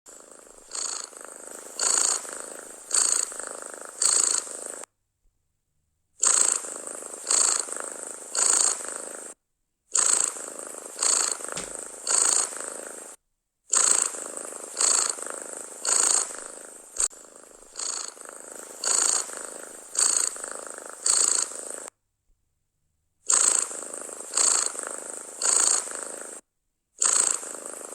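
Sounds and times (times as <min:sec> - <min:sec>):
cat purring loudly: 0:00.1 - 0:04.9, 0:06.2 - 0:21.9, 0:23.3 - 0:26.4, 0:27.0 - 0:27.9.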